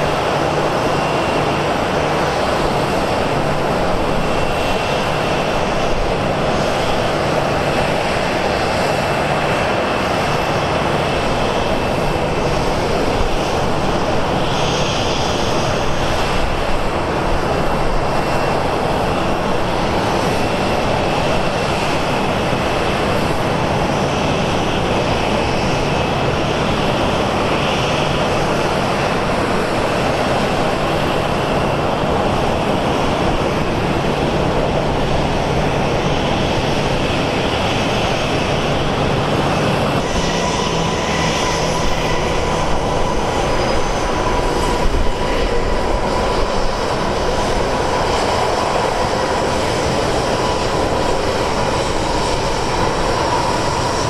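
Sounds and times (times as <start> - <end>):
aircraft engine with high whine: 0.0 - 54.0.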